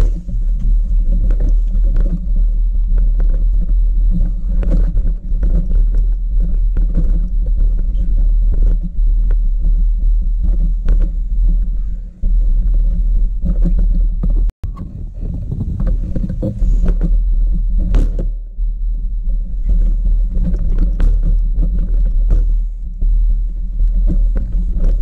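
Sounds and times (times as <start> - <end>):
bicycle knocks and rattles: 0.0 - 18.6, 19.2 - 25.0
bicycle rumbling over stony track: 0.0 - 25.0
wind on microphone: 0.0 - 25.0.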